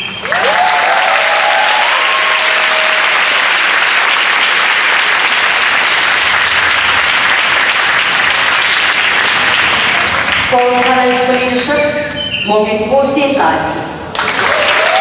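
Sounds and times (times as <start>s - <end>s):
audience applauding: 0.0s - 11.6s, 14.1s - 15.0s
crowd cheering: 0.0s - 11.6s, 14.1s - 15.0s.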